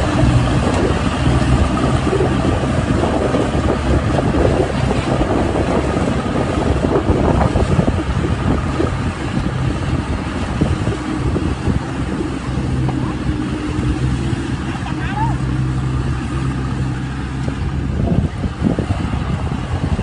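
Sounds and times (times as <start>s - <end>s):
combine harvester running: 0.0s - 20.0s
wind on microphone: 0.0s - 20.0s.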